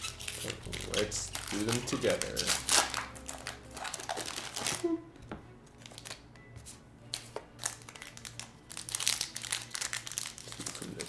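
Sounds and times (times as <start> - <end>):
foil wrappers crinkling: 0.0 - 5.0, 5.8 - 6.2, 7.2 - 11.0.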